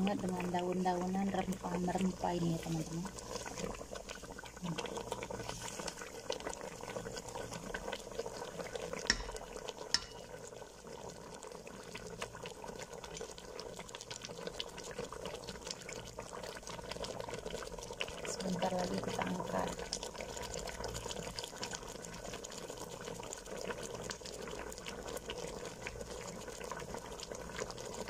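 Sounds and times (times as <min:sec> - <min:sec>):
sauce simmering with popping bubbles: 0:00.0 - 0:28.0.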